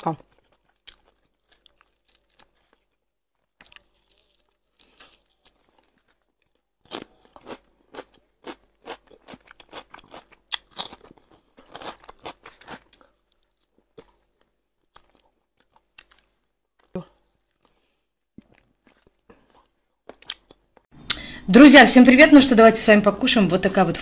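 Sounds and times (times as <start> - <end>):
wet crunching and chewing: 0.1 - 20.8.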